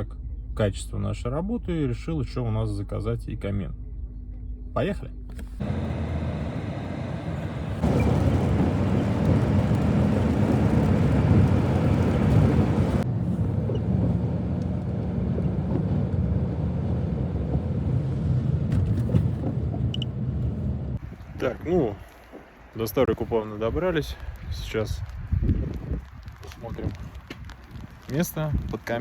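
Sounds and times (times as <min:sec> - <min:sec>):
car road and engine rumble: 0:00.0 - 0:23.5.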